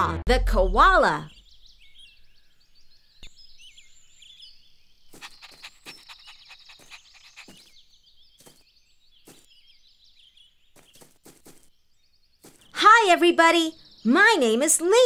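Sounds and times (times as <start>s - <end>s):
small birds chirping: 1.0s - 15.0s.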